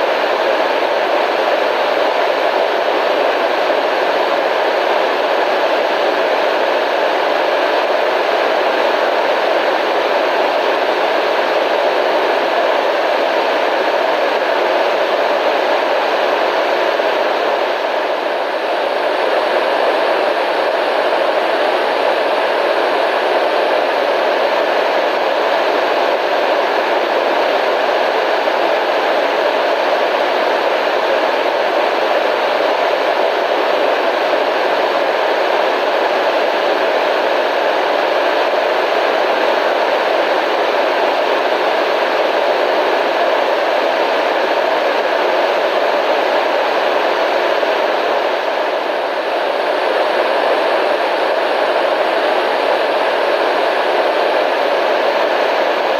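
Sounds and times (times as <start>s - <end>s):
radio static hiss: 0.0s - 55.9s.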